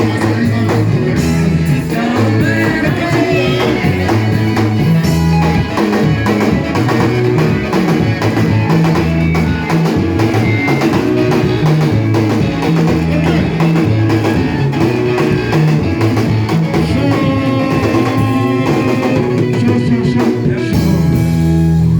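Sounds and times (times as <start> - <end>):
live band music: 0.0 - 21.9.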